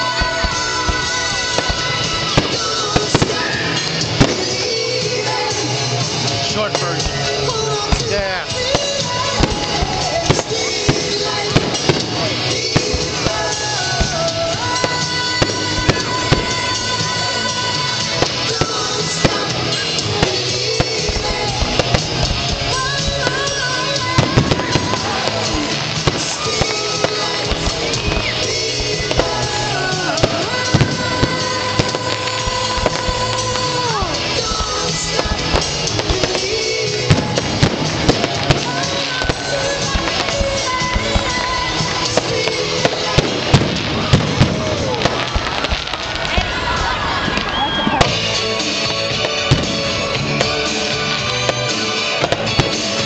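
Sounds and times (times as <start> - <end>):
fireworks bangs: 0.0 - 53.0
loud music: 0.0 - 53.0.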